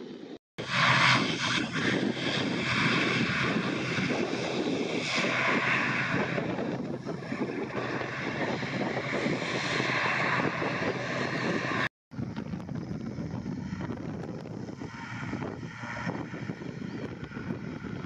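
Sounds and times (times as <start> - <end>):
propeller airliner taxiing: 0.0 - 18.0.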